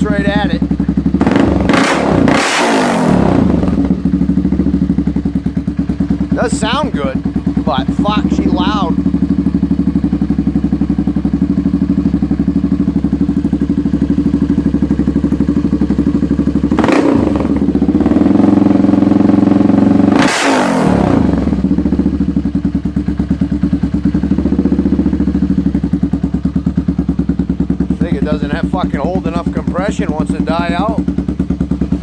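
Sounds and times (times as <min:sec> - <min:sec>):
loud engine idling and revving: 0:00.0 - 0:32.0.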